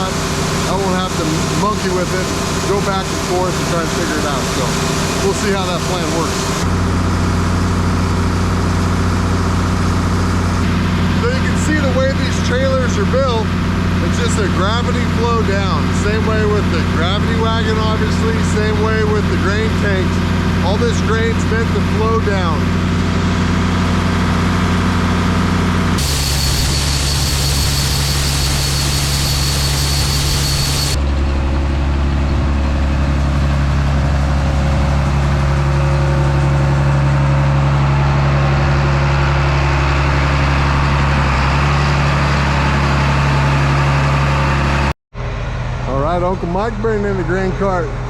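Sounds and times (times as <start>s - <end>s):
heavy diesel engine idling: 0.0s - 48.0s.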